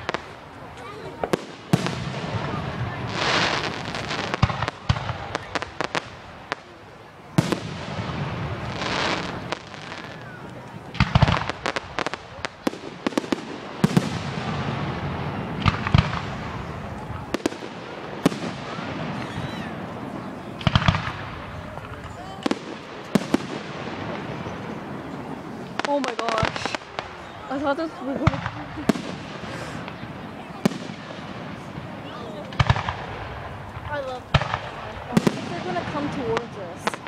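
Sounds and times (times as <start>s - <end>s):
fireworks bursting with bangs: 0.0s - 37.0s
fireworks crackling: 0.0s - 37.0s.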